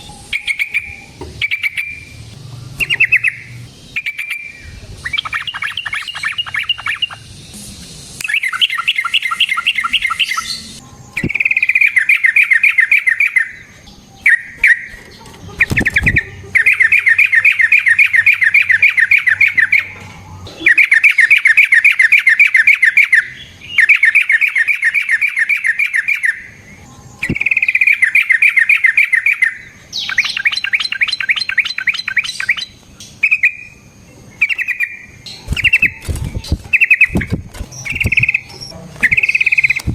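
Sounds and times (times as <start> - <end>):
bird singing trilled phrases: 0.0 - 7.6, 8.2 - 39.9.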